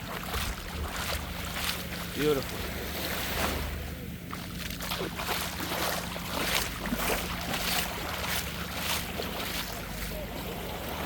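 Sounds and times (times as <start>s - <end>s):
steady low hum: 0.0s - 11.0s
surf washing: 0.0s - 11.0s.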